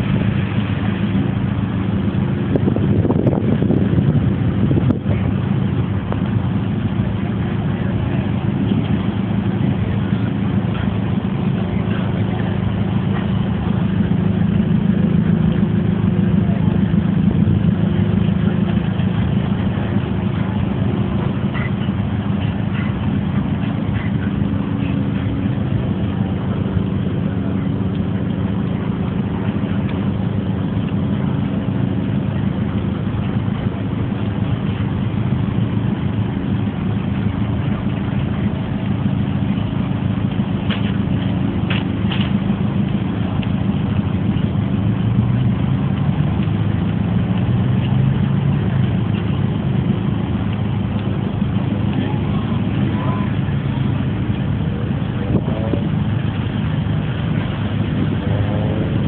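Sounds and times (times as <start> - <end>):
car engine running at low revs: 0.0 - 59.0.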